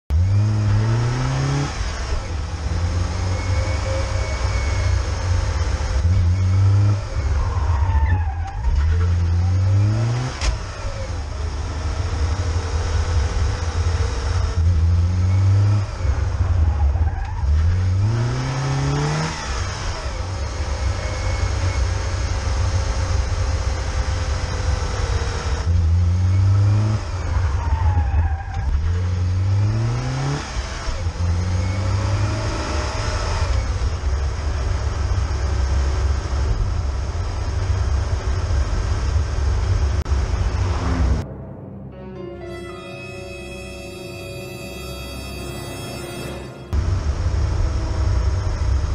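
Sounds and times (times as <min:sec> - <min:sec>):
car engine revving through gears: 0:00.1 - 0:41.2.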